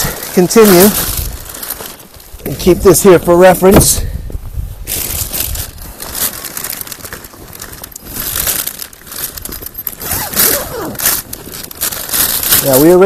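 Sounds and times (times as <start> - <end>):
bag material rustling and crinkling: 0.0 - 13.0.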